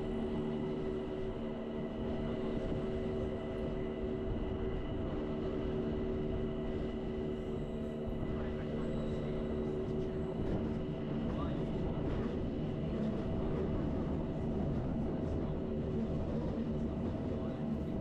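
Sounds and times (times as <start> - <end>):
electric train drive whine: 0.0 - 18.0.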